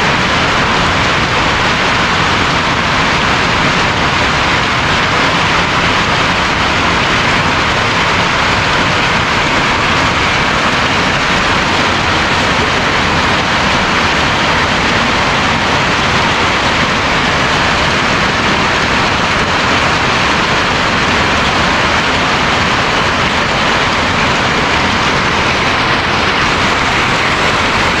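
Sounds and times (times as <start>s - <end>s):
hail and rain pelting roofs: 0.0s - 28.0s.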